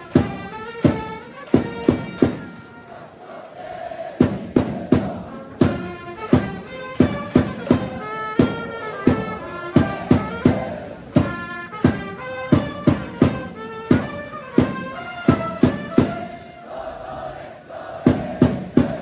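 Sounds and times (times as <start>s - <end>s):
hard drum beat: 0.0s - 2.8s, 4.2s - 17.2s, 18.0s - 19.0s
trumpets playing cheer melody: 0.0s - 4.1s, 5.3s - 18.0s.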